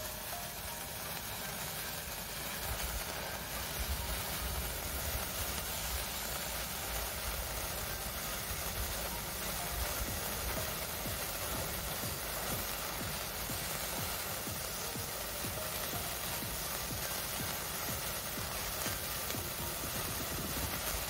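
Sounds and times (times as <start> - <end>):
sparkler fizzing hiss: 0.0 - 21.0.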